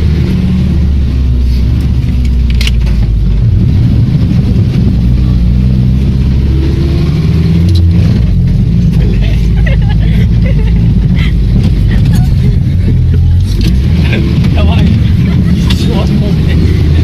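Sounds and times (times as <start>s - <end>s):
jeep engine running under load: 0.0s - 17.0s.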